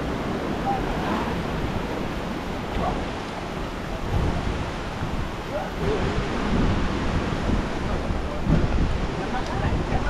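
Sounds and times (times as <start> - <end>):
sea surf rushing: 0.0 - 10.0
wind buffeting microphone: 0.0 - 10.0.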